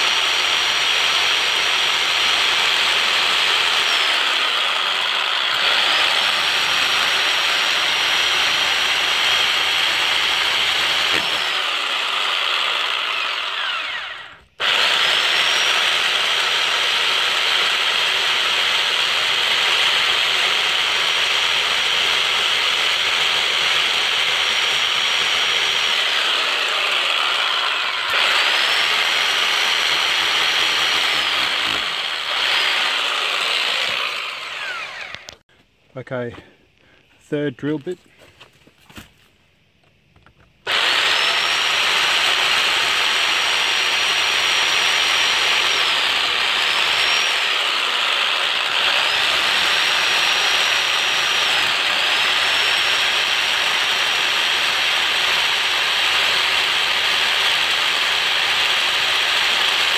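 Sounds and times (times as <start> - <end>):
hammer drill boring into brick: 0.0 - 35.4, 40.7 - 59.9.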